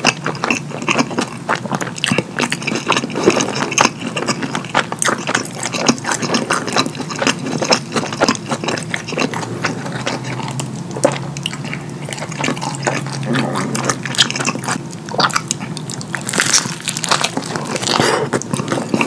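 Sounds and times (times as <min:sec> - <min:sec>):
open-mouth chewing and lip smacking: 0:00.0 - 0:19.0.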